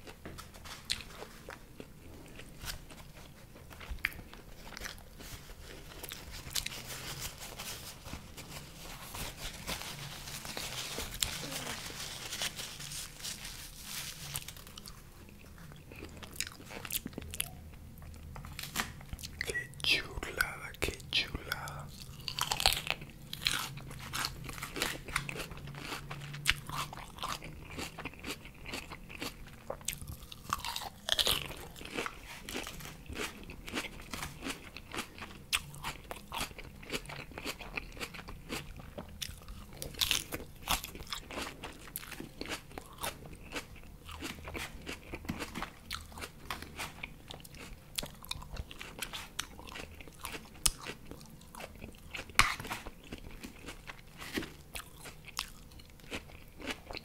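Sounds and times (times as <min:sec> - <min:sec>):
chewing crisp lettuce: 0:00.0 - 0:57.0.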